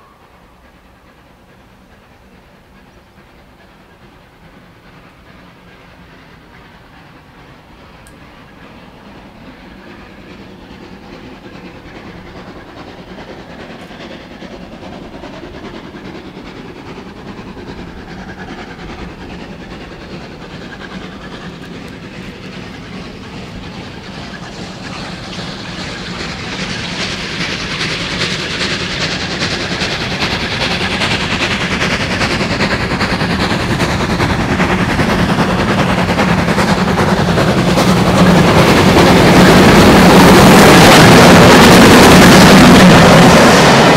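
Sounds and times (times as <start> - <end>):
steam train approaching: 0.0 - 43.9.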